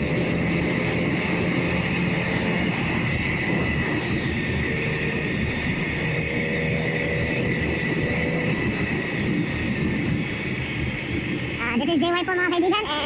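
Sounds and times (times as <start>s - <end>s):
engine hum: 0.0s - 13.0s
wind and road noise: 0.0s - 13.0s.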